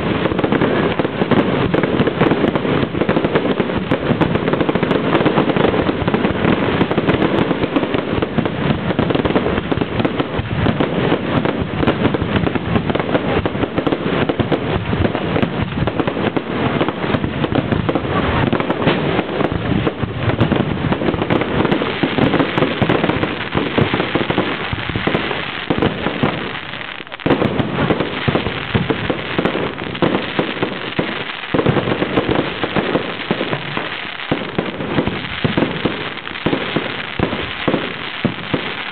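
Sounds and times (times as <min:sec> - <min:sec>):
muffled fireworks bangs and crackling: 0:00.0 - 0:38.9.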